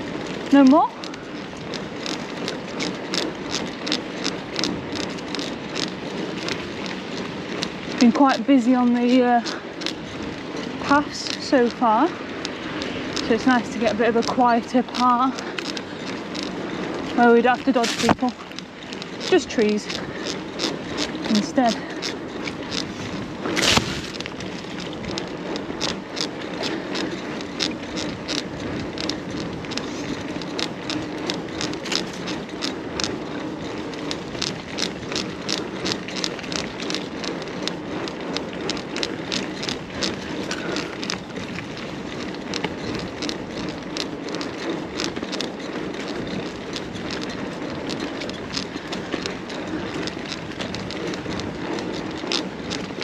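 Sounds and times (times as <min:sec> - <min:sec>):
bike clicks and rattles: 0:00.0 - 0:53.0
bike tyre noise: 0:00.0 - 0:53.0.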